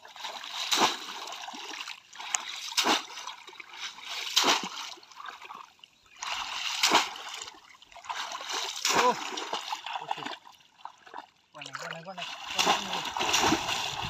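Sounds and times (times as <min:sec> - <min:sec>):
sharp water splashes: 0:00.0 - 0:14.0
water sloshing: 0:00.0 - 0:14.0.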